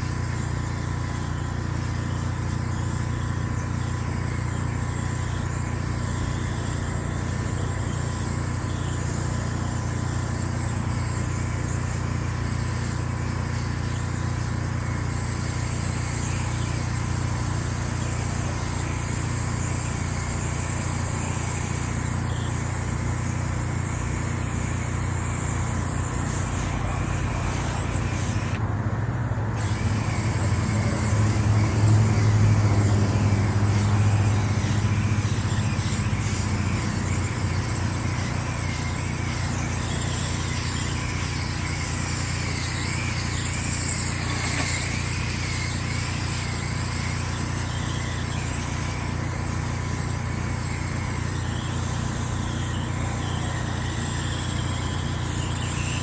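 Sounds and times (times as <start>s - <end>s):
water spray hiss: 0.0s - 28.6s, 29.6s - 56.0s
pressure washer engine running: 0.0s - 56.0s.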